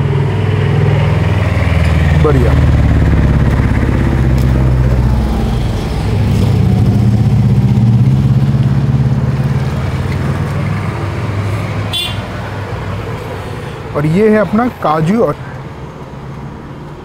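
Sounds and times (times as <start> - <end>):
vehicle engine running: 0.0 - 16.4.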